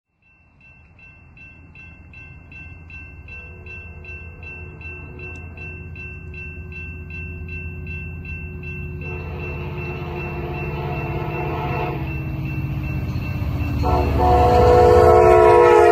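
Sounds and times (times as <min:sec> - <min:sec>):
railroad crossing bell ringing: 0:00.1 - 0:15.9
low rumble of approaching train: 0:00.2 - 0:15.9.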